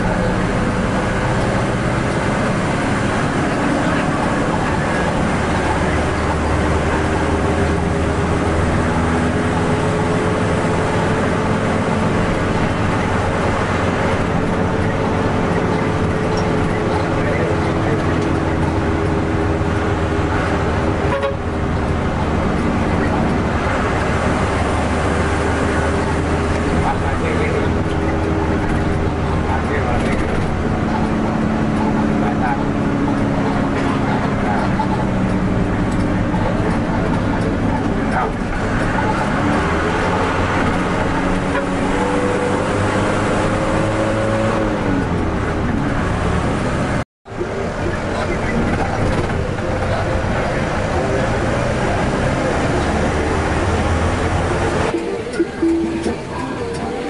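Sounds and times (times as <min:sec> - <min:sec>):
diesel bus engine droning: 0:00.0 - 0:57.0
road and tyre noise: 0:00.0 - 0:57.0.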